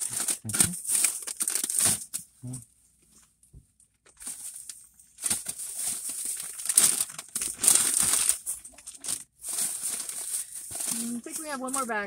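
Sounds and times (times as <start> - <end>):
plastic bags crinkling: 0.0 - 2.3, 4.1 - 12.0.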